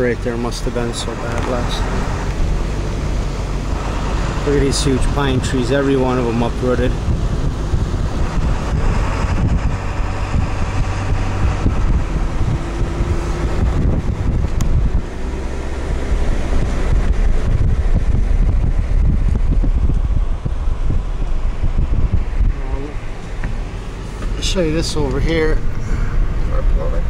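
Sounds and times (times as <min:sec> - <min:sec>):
car engine and road noise: 0:00.0 - 0:27.0
wind buffeting microphone: 0:00.0 - 0:27.0.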